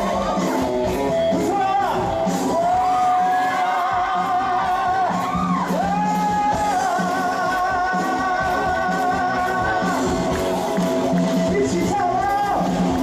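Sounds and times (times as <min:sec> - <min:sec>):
live pop-rock band music: 0:00.0 - 0:13.0.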